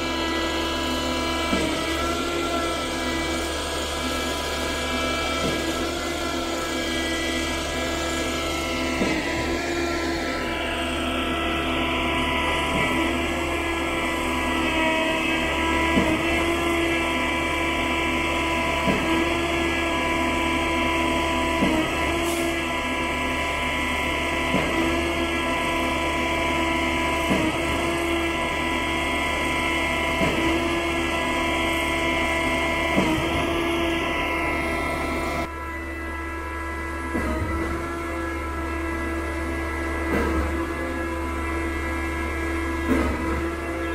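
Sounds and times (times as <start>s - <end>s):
pump machine whine: 0.0s - 43.9s.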